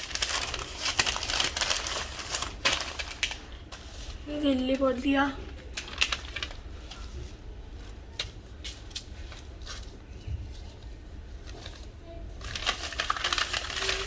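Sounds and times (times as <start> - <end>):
crinkly wrapping rustling: 0.0 - 14.0.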